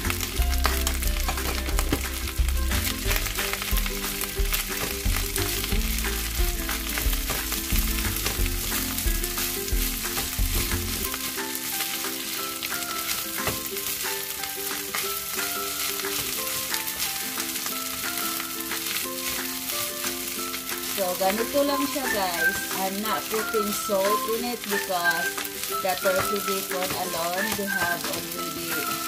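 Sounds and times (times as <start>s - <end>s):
wooden spoon scraping a pan: 0.0s - 12.3s, 12.9s - 29.0s
food sizzling in a frying pan: 0.0s - 29.0s.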